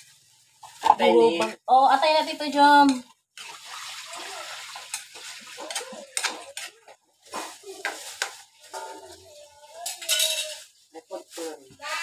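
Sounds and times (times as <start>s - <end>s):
spatula stirring and scraping wok: 0.0s - 12.0s.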